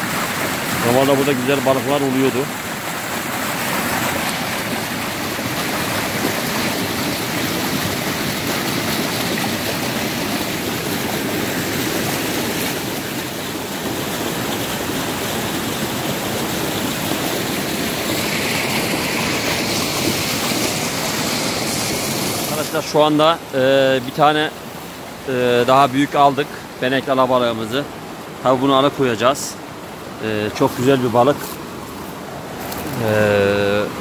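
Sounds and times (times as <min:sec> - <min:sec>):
stream rushing over rocks: 0:00.0 - 0:34.0.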